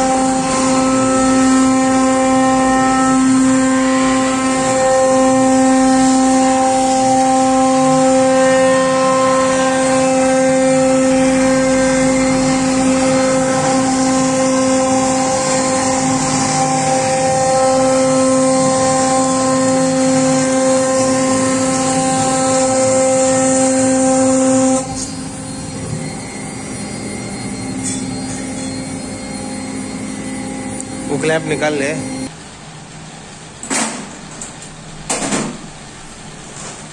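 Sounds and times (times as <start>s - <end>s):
router spindle whine: 0.0s - 32.3s.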